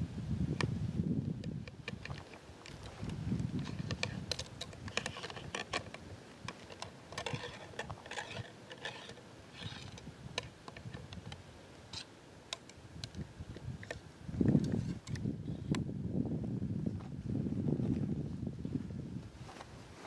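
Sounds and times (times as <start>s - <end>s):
soft crunching rustles: 0.6s - 15.6s, 16.8s - 20.0s.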